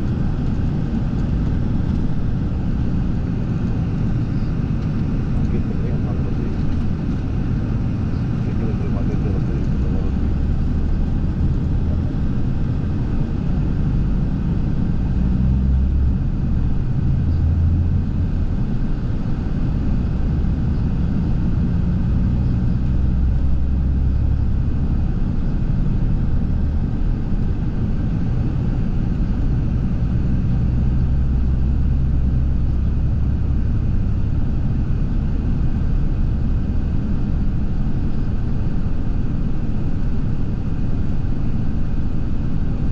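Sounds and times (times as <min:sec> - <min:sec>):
vehicle low rumble: 0:00.0 - 0:42.9.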